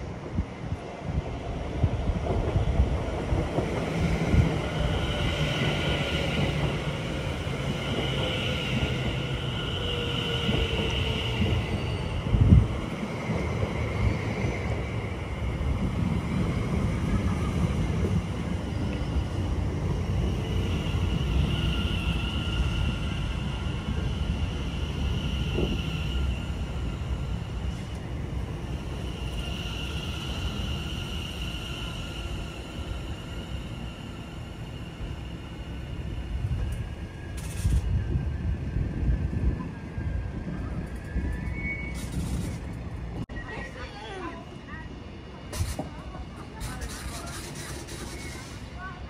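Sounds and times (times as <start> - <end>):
electric train rumbling: 0.0 - 49.0
high train whine: 0.0 - 49.0.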